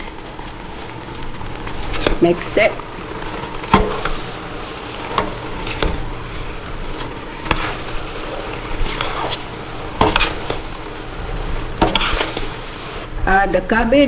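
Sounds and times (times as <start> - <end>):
utensil stirring noodles in a pan: 0.0 - 13.2
steady hiss: 0.0 - 14.0.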